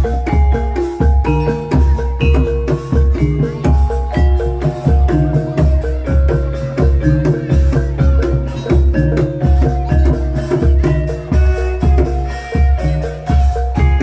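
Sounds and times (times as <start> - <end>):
heavy drum beat: 0.0 - 14.0.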